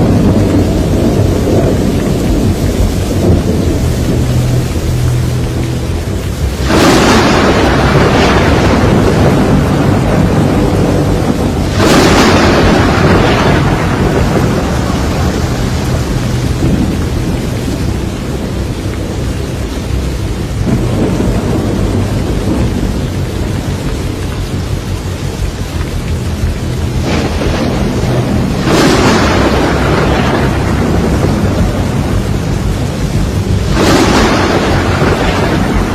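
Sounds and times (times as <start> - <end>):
heavy rain: 0.0 - 35.9
hurricane wind: 0.0 - 35.9.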